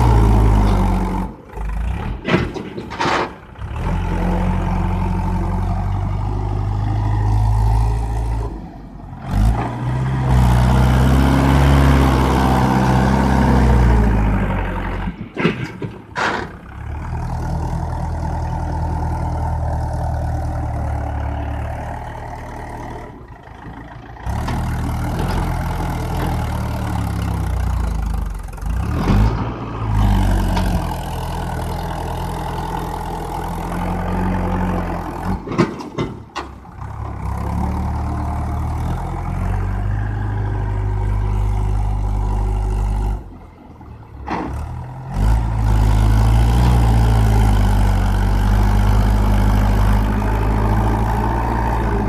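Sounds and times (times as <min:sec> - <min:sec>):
tractor diesel engine labouring: 0:00.0 - 0:52.0.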